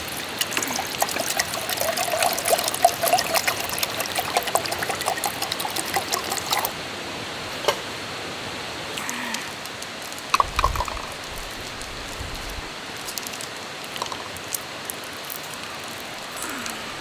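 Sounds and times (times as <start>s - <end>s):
water pouring into container: 0.0s - 6.8s, 10.0s - 17.0s.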